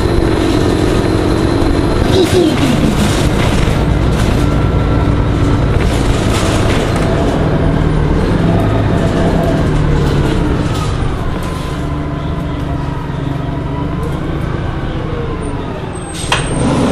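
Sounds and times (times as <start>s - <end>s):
bus engine whine: 0.0s - 16.9s.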